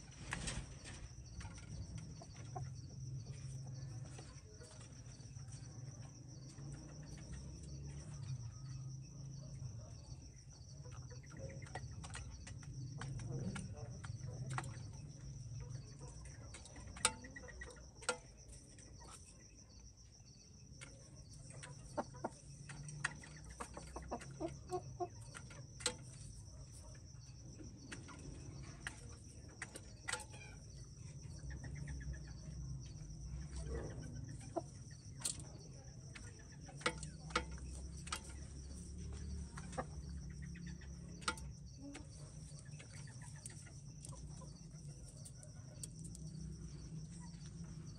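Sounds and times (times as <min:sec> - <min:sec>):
insects trilling: 0:00.0 - 0:47.9
chickens clucking: 0:00.2 - 0:47.9.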